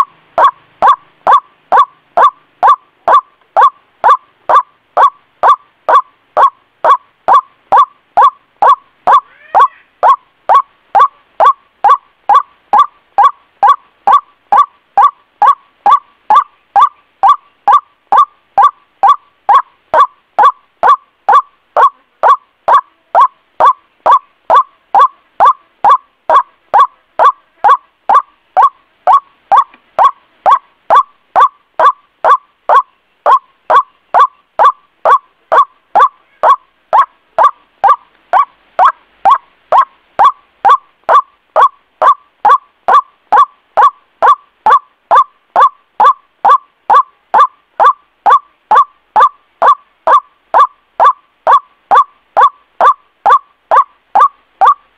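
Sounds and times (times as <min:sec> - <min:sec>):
bird calling sharp notes: 0:00.0 - 0:54.9.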